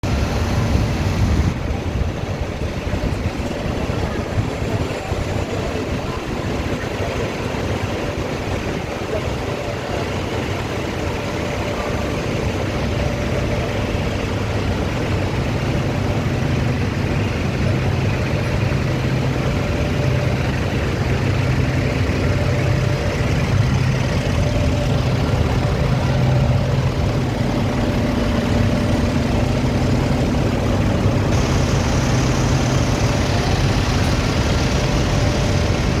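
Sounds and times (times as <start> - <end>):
fans blowing air: 0.0 - 36.0
low motor hum: 0.0 - 36.0.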